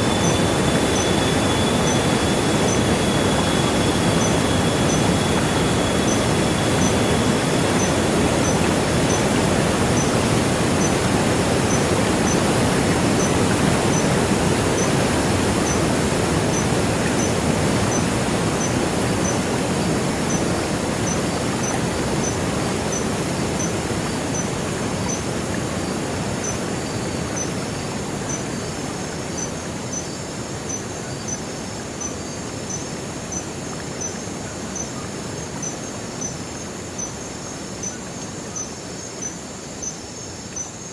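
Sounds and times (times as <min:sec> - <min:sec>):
cricket chirping: 0:00.0 - 0:40.9
rushing water: 0:00.0 - 0:40.9.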